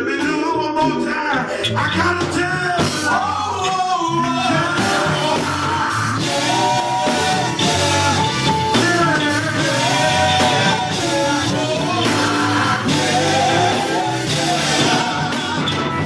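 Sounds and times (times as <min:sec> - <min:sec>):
gospel band playing: 0:00.0 - 0:16.0
person singing: 0:00.0 - 0:16.0.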